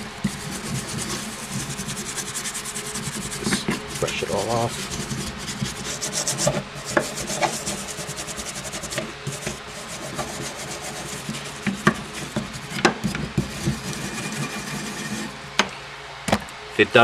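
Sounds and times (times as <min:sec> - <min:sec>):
brush knocking on metal: 0:00.0 - 0:14.5
wire brush scrubbing metal: 0:00.0 - 0:15.4.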